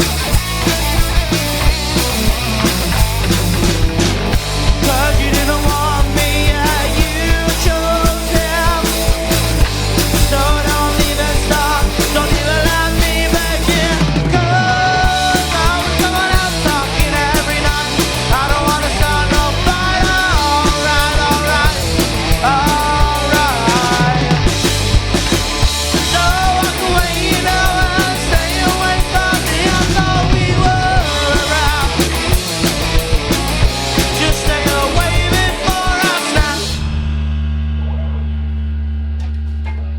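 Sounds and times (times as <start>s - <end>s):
live punk rock band playing: 0.0s - 39.9s.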